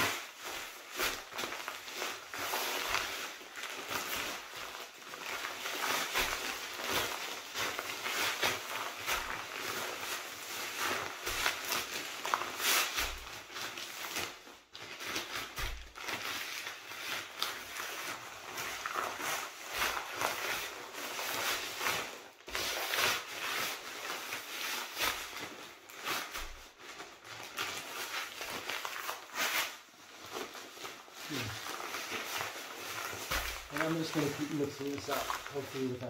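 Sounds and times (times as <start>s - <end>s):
granules rustling in a bag: 0.0s - 36.0s
plastic bag crinkling: 0.0s - 36.0s.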